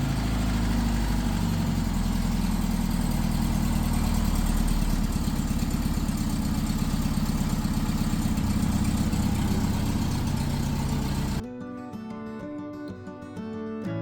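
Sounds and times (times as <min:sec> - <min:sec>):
engine idling: 0:00.0 - 0:11.4.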